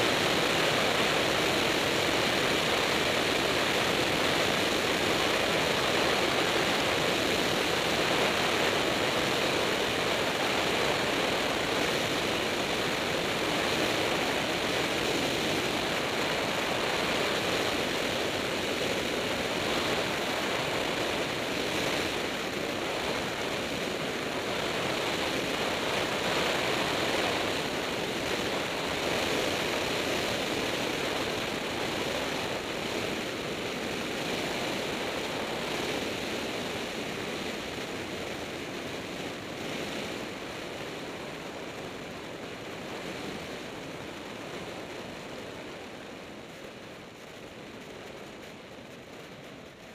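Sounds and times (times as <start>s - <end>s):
propeller airplane engine drone: 0.0s - 49.9s
wind rushing over microphone: 0.0s - 49.9s.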